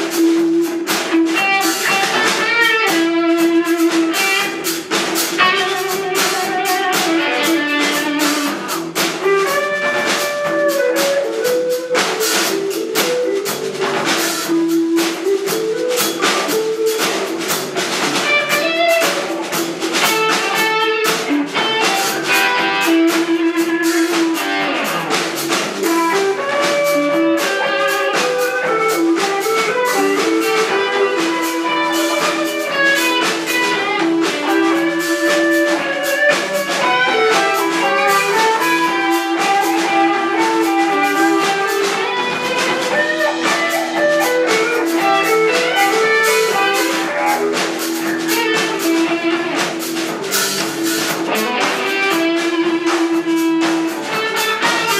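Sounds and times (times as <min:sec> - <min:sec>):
drum kit: 0:00.0 - 0:54.9
electric guitars: 0:00.0 - 0:54.9.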